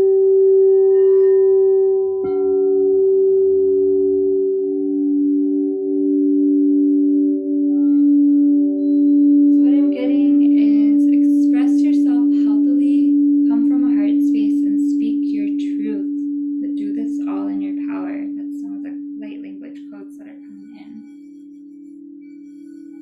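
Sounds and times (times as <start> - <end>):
crystal singing bowls ringing: 0.0 - 23.0.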